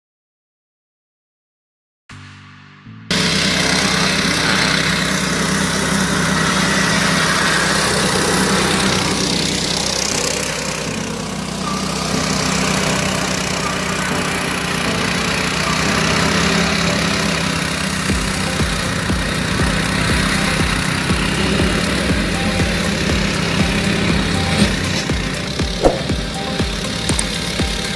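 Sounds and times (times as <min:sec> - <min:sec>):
shredder engine running: 0:03.1 - 0:27.9.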